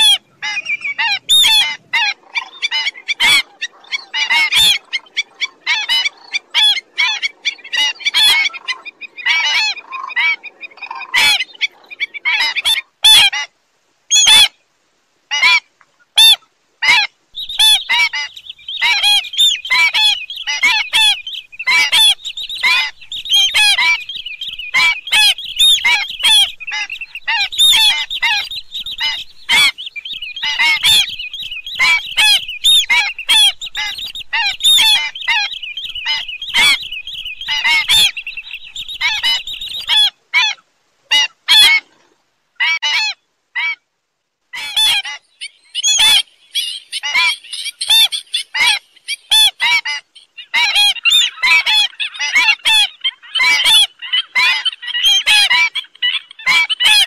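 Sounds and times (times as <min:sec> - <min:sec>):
birds yapping calls: 0:00.0 - 0:13.3, 0:16.9 - 0:40.2, 0:44.6 - 0:57.0.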